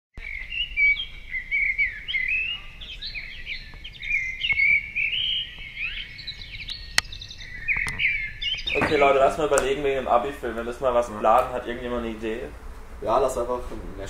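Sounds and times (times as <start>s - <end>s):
songbirds singing: 0.2s - 14.0s.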